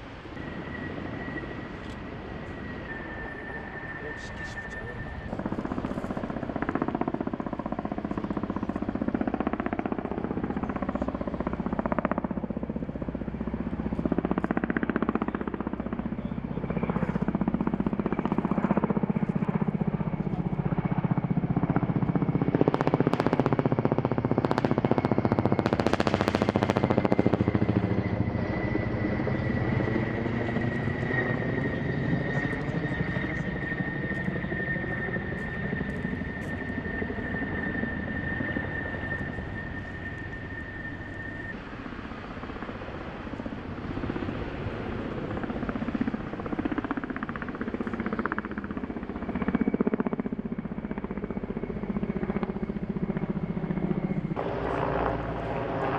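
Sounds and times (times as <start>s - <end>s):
helicopter rotor and turbine whine: 0.0s - 55.9s.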